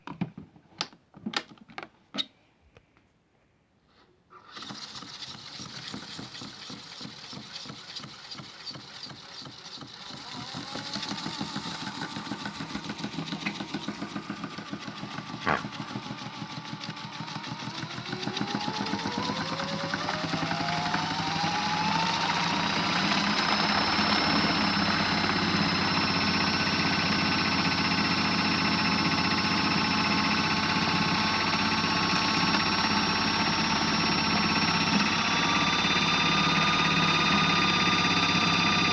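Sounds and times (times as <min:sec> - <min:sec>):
toy washing machine motor whine: 0:04.4 - 0:38.9.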